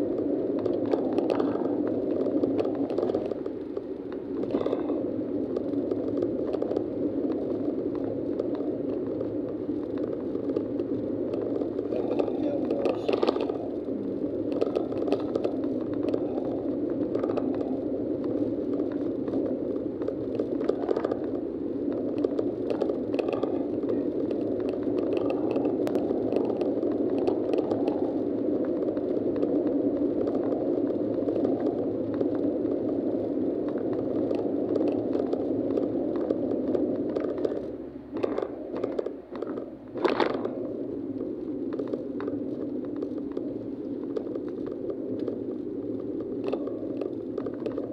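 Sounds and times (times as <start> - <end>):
car engine and tyres droning: 0.1 - 47.9
small clicks and rattles: 0.1 - 47.9.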